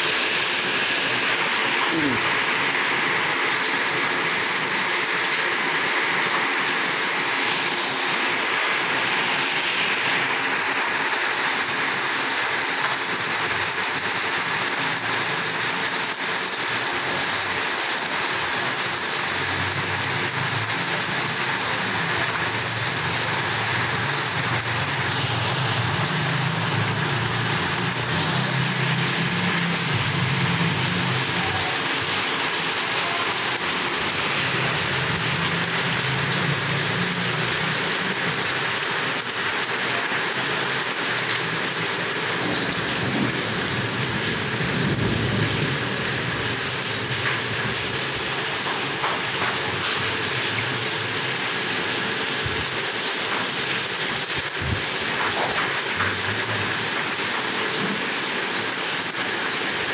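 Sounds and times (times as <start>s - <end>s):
rain on concrete: 0.0s - 59.9s.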